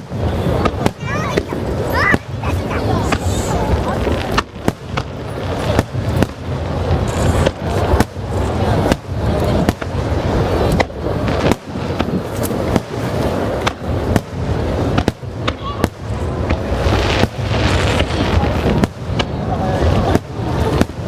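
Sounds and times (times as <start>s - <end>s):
fireworks bangs: 0.0s - 21.0s
fireworks rumble and crackle: 0.0s - 21.0s.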